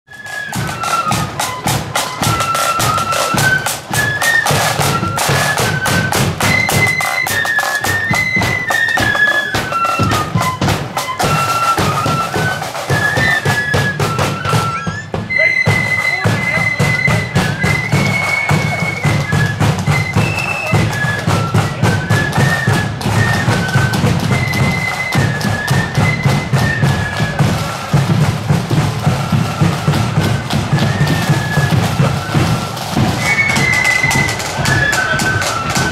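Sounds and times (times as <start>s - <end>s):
flutes playing march melody: 0.1s - 35.9s
side drum beating: 0.1s - 35.9s.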